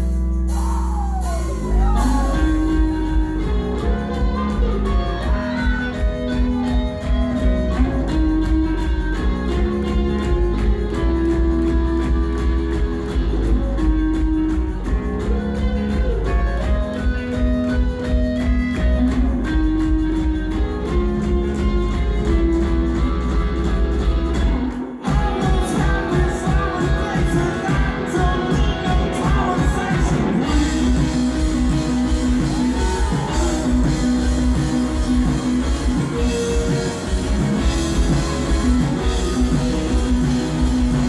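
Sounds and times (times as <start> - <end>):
bass guitar: 0.0 - 41.0
electric guitars: 0.0 - 41.0
steady drum beat: 0.0 - 41.0.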